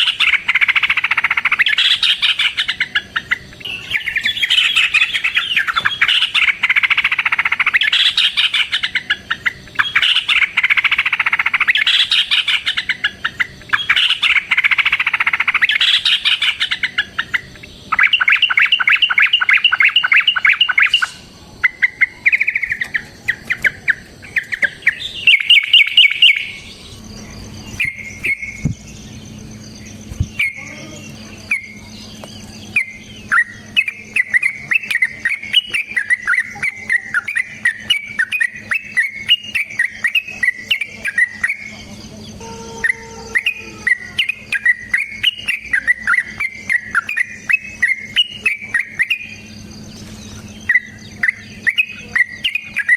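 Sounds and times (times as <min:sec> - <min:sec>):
bulbul singing: 0:00.0 - 0:52.9
faint low hum: 0:00.0 - 0:52.9.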